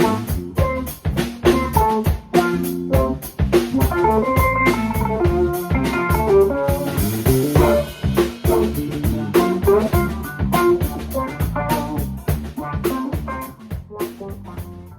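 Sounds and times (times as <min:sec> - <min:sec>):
drum kit steady beat: 0:00.0 - 0:14.9
guitar melody: 0:00.0 - 0:14.9.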